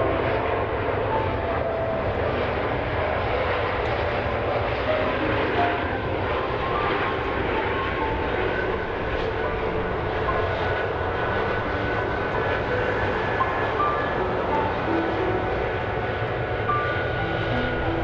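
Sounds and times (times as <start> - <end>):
jet engine rush: 0.0 - 18.0.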